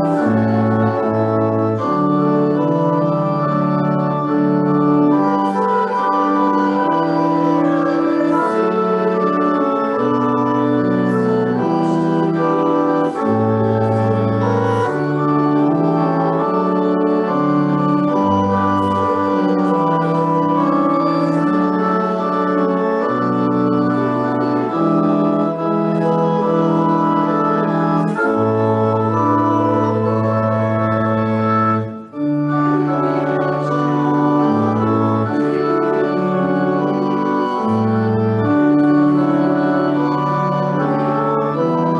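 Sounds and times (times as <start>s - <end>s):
organ playing sustained chords: 0.0s - 41.9s.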